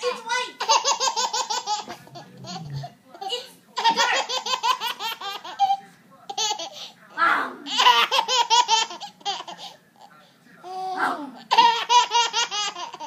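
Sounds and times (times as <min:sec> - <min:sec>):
baby giggling: 0:00.6 - 0:06.9, 0:07.7 - 0:09.6, 0:10.7 - 0:13.0.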